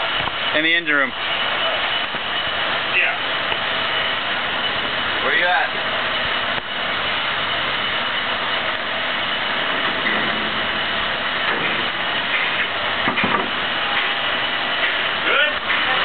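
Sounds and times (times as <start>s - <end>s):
heavy engine droning: 0.0s - 16.0s.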